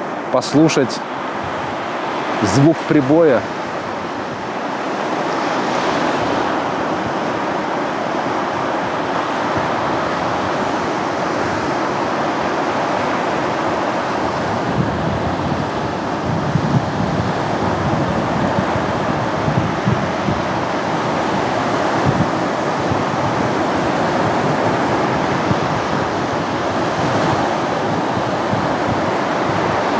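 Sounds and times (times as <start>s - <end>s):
waves breaking on beach: 0.0s - 29.9s
wind buffeting microphone: 0.0s - 29.9s.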